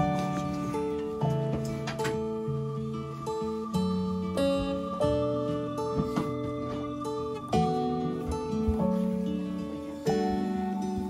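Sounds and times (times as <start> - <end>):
acoustic guitar tune: 0.0 - 11.0.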